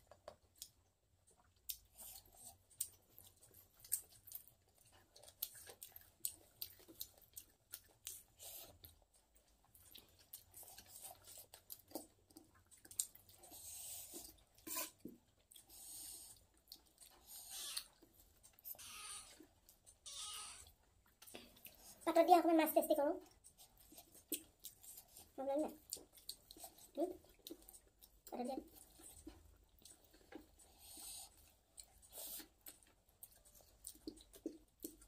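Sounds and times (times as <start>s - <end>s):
person chewing rice: 0.0s - 22.0s, 23.2s - 35.0s.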